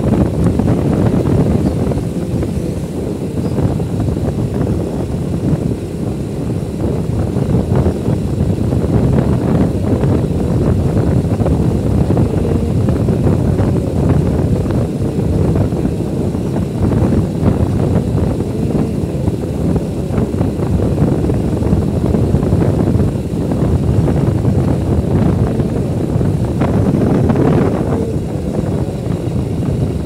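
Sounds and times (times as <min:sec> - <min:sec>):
motorbike vehicle noise: 0:00.0 - 0:30.0
wind buffeting microphone: 0:00.0 - 0:30.0.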